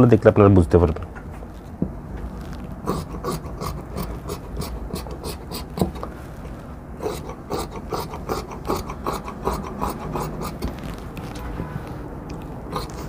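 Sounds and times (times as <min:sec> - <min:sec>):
shears snipping cloth: 0:01.4 - 0:13.0.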